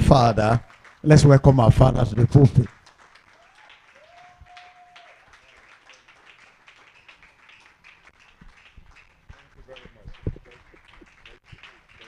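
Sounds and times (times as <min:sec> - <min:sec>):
faint scattered clapping: 0:00.1 - 0:12.0.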